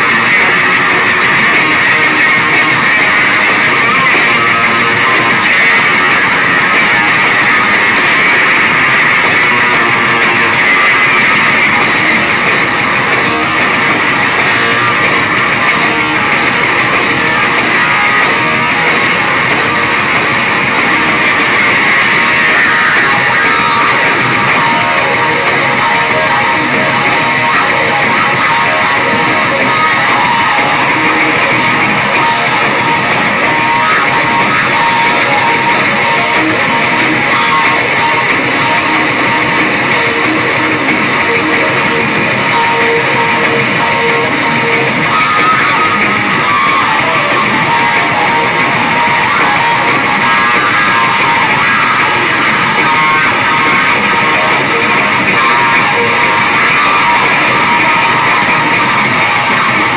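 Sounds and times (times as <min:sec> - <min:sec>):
distorted electric bass guitar: 0:00.0 - 0:59.9
pounding drum kit: 0:00.0 - 0:59.9.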